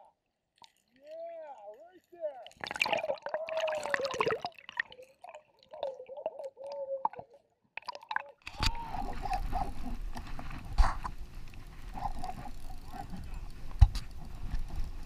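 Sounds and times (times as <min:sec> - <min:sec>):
underwater gurgling and clicking: 0:02.4 - 0:15.0.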